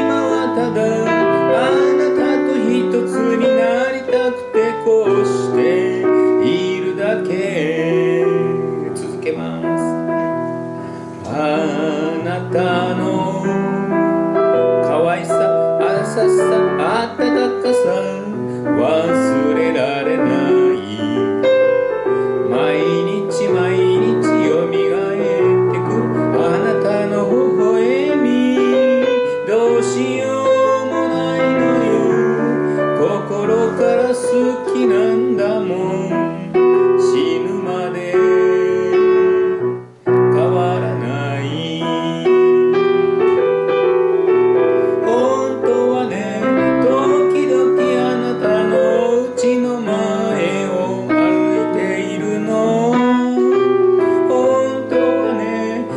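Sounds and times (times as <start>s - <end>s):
piano accompaniment: 0.0s - 55.9s.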